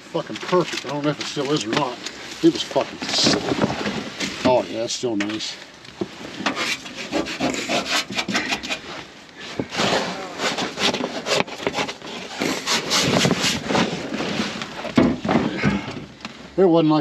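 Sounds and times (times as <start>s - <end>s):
objects scraping and rubbing: 0.2s - 15.8s.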